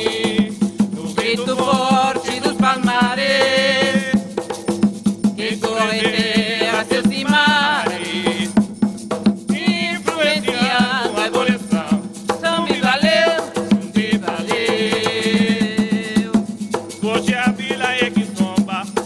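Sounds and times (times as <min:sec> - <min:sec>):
voices singing a chant: 0:00.0 - 0:04.5, 0:05.4 - 0:08.8, 0:09.5 - 0:19.0
shaken rattle: 0:00.0 - 0:19.0
steady drumming: 0:00.0 - 0:19.0.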